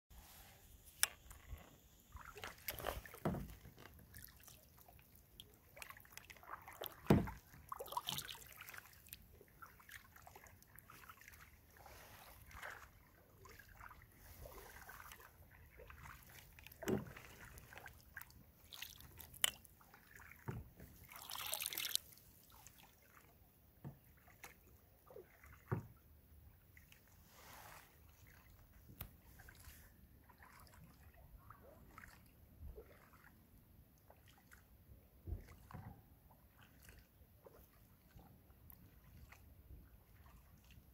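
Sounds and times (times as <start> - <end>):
water swishing: 0.1 - 33.5, 35.3 - 40.9
paddle splashing and dripping: 0.2 - 40.9.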